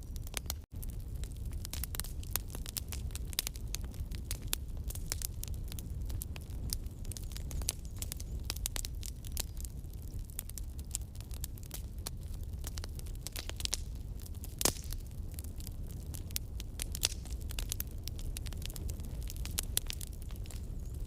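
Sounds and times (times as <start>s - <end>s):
burning wood crackling and popping: 0.0s - 21.0s
low rumble of flame: 0.0s - 21.0s.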